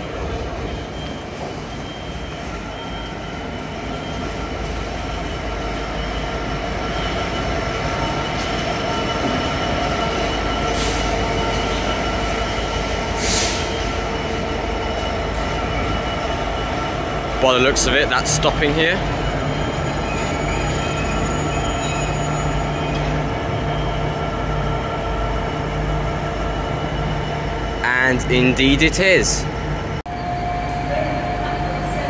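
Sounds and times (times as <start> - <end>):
high squeal: 0.0 - 29.5
train engine and wheel rumble: 0.0 - 32.0.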